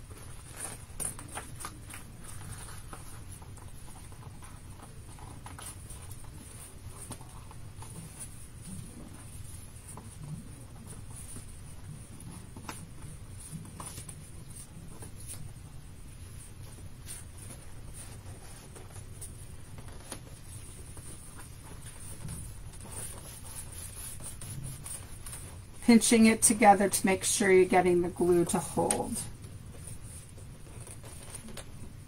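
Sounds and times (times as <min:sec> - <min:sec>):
paper rustling and scraping: 0:00.0 - 0:25.7, 0:29.7 - 0:32.0
low steady hum: 0:00.0 - 0:32.0.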